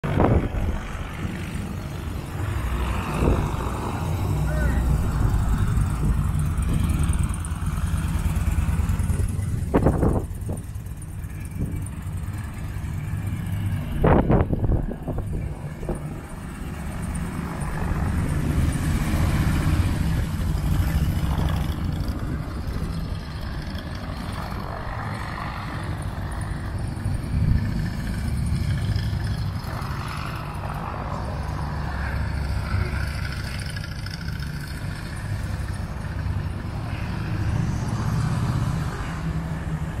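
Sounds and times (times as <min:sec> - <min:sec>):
motorcycle engines at low speed: 0:00.0 - 0:40.0.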